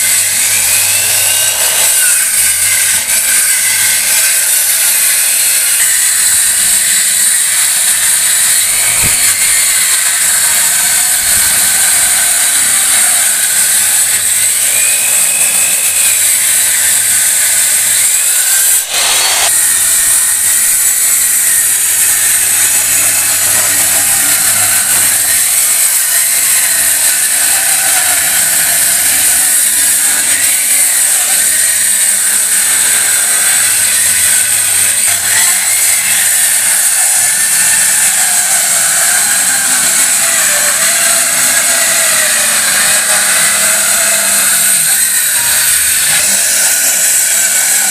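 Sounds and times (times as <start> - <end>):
disc cutter cutting concrete block: 0.0 - 47.9.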